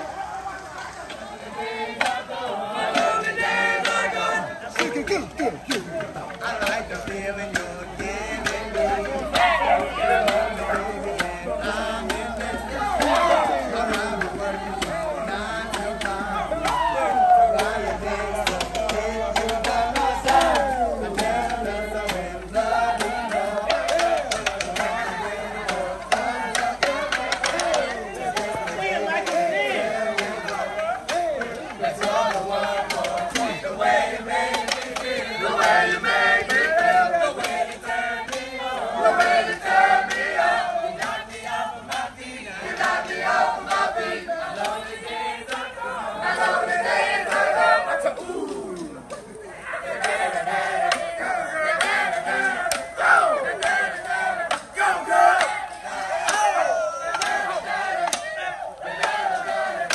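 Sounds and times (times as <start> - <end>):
crowd singing loudly: 0.0 - 59.9.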